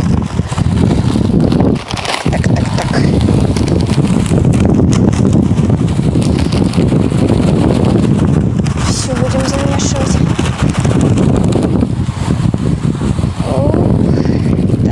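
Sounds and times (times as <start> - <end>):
faint clicks and rustles: 0.0 - 12.4
wind buffeting microphone: 0.0 - 14.9.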